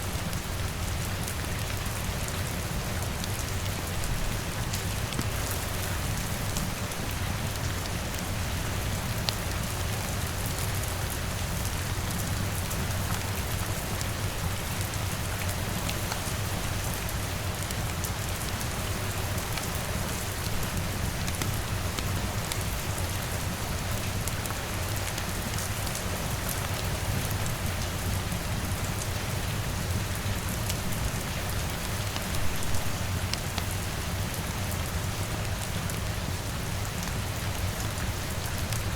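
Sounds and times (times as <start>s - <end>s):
rain: 0.0s - 38.9s.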